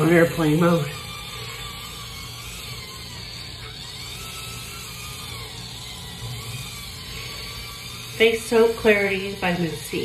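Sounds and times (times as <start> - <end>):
electric cleansing brush motor humming: 0.0 - 10.0.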